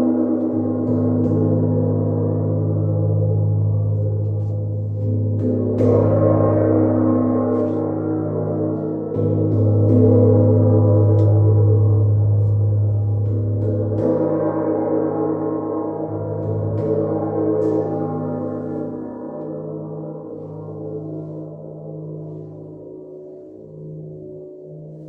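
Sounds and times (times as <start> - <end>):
gong ringing: 0.0 - 21.8
strong low hum: 0.0 - 22.0.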